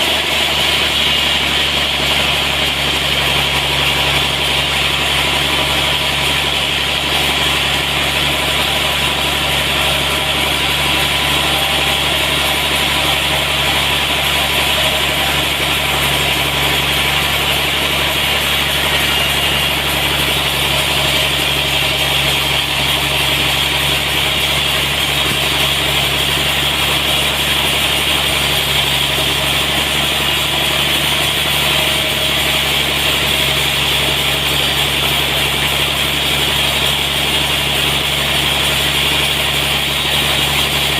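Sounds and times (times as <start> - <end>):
sawmill engine humming: 0.0 - 40.9.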